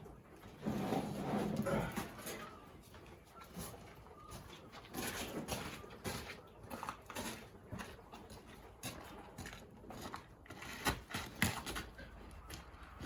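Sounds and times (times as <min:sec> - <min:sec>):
footsteps crunching on ice: 0:02.4 - 0:13.0.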